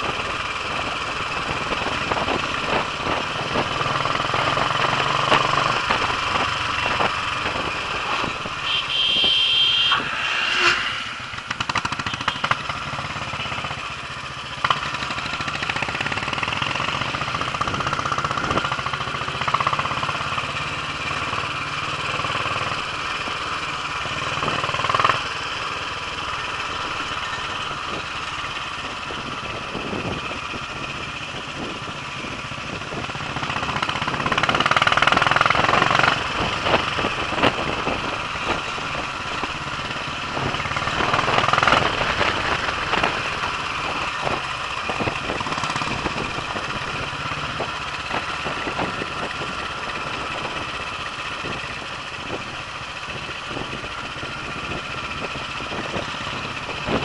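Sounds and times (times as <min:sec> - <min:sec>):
knocks and rattles from road: 0:00.0 - 0:57.0
motorcycle engine running: 0:00.0 - 0:57.0.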